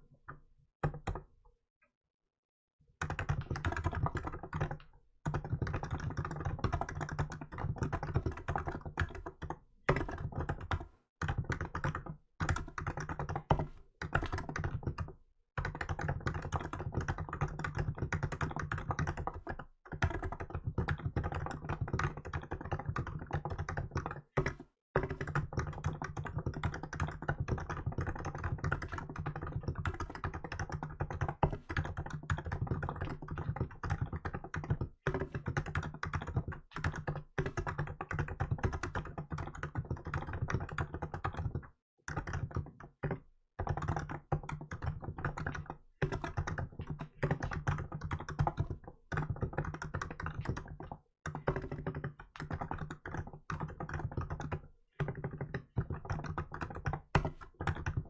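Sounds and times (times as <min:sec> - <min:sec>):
fast keyboard typing: 0:00.8 - 0:01.3, 0:03.0 - 0:58.0.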